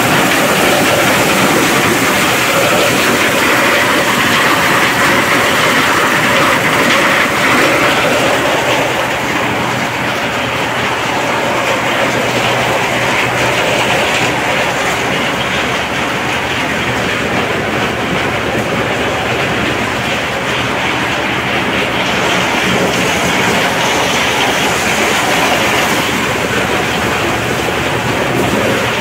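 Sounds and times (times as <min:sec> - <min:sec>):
corn sheller clattering: 0:00.0 - 0:29.0.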